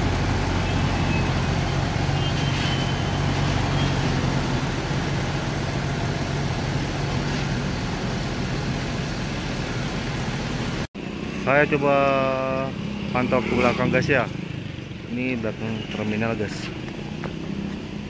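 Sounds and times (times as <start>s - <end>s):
bus diesel engine pulling away: 0.0s - 14.9s.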